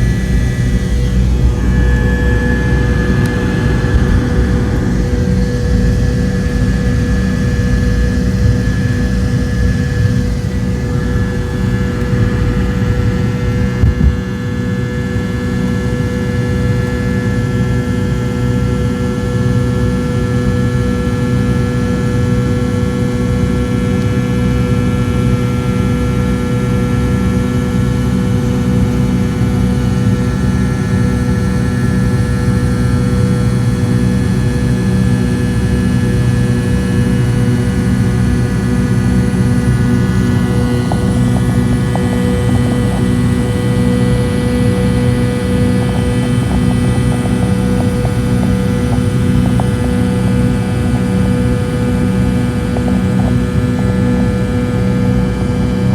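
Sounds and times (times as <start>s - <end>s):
jet engine cabin rumble: 0.0s - 55.9s
steady whining tones: 0.0s - 55.9s.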